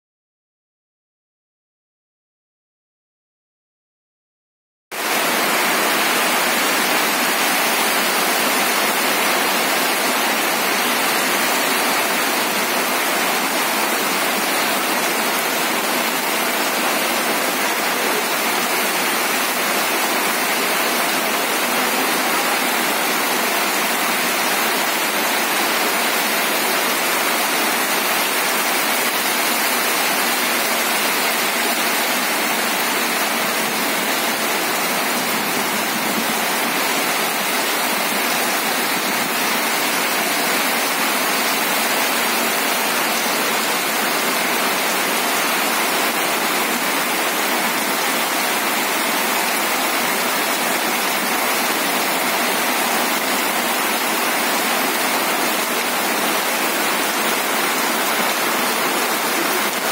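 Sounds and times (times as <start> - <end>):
heavy rain on ground and puddles: 4.9 - 59.9.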